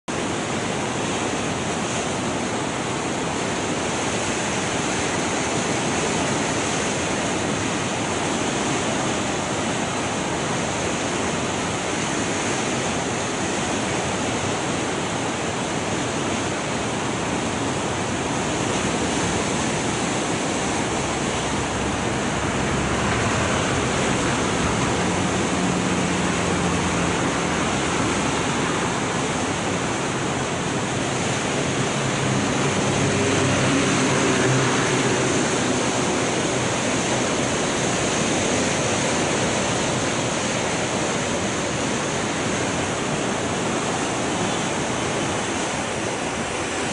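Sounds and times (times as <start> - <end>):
floodwater rushing: 0.1 - 46.9.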